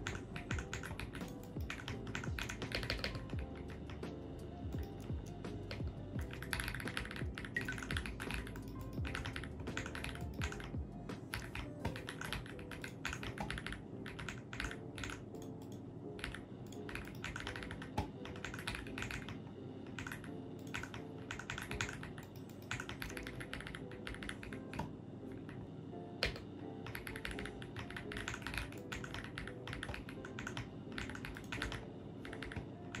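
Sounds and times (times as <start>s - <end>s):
mechanical keyboard typing: 0.0s - 25.5s, 26.2s - 33.0s
soft music: 0.0s - 33.0s.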